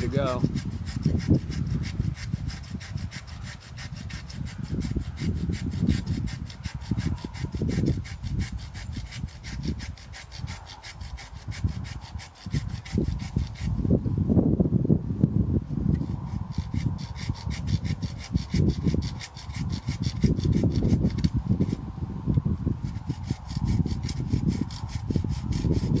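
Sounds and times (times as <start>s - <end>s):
handsaw cutting wood: 0.0s - 13.8s, 15.9s - 21.8s, 22.8s - 26.0s.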